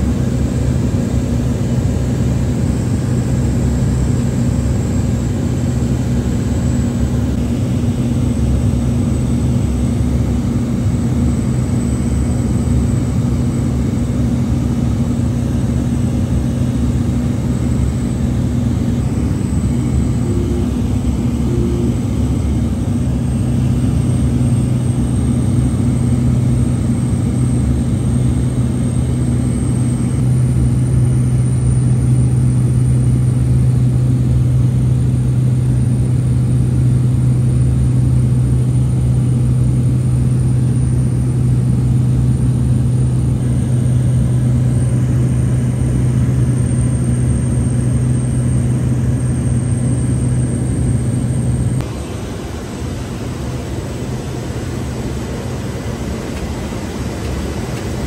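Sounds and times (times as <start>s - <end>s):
turboprop engine droning: 0.0s - 58.0s.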